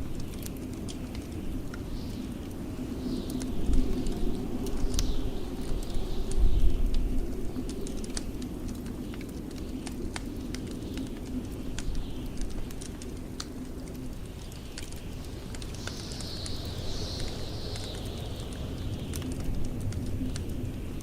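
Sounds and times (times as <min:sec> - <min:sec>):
blizzard wind rumbling: 0:00.0 - 0:21.0
wood fire crackling and popping: 0:00.0 - 0:21.0.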